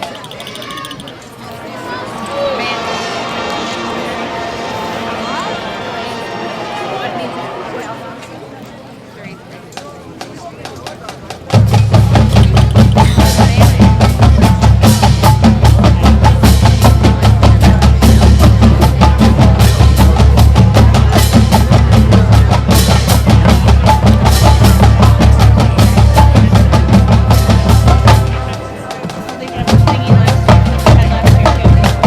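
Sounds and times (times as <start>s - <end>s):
drumline playing a cadence: 1.6s - 8.6s, 10.2s - 32.0s.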